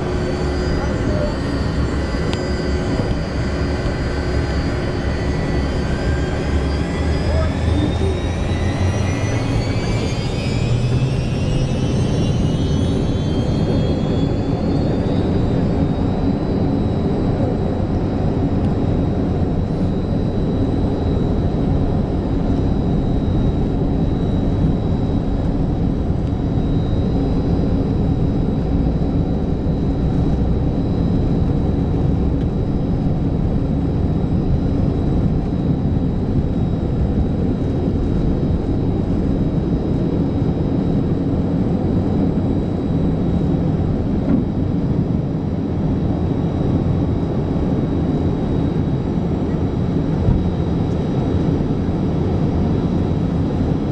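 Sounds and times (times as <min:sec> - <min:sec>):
jet engines rumbling with whine: 0:00.0 - 0:53.9.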